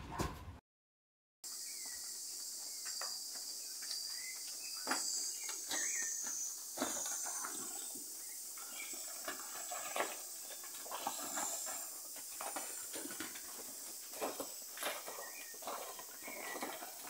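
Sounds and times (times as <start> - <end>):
cattle hooves knocking on dirt: 1.5 - 17.0
high insect hiss: 1.5 - 17.0.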